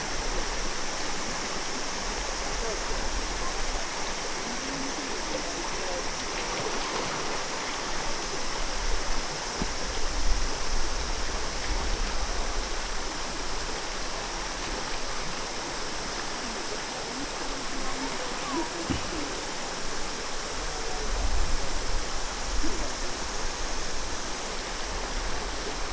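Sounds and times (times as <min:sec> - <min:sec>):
rushing mountain stream: 0:00.0 - 0:25.9.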